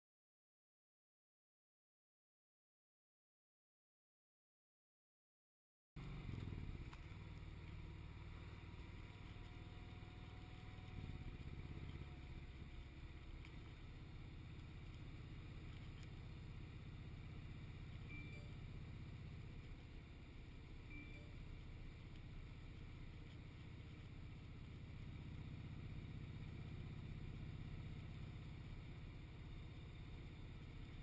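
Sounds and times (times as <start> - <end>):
motorcycle engine running: 6.0 - 31.0.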